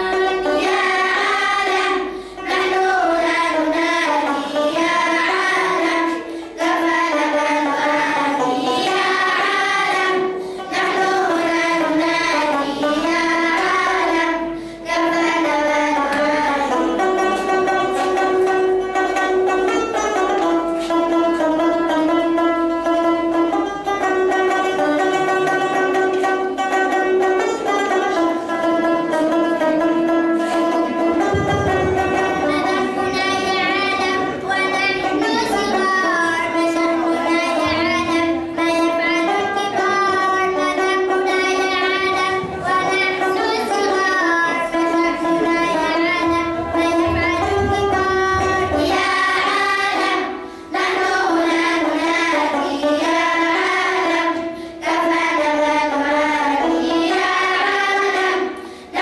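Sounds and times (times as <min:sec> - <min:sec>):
children's choir singing: 0:00.0 - 0:59.0
plucked string instruments: 0:00.0 - 0:59.0.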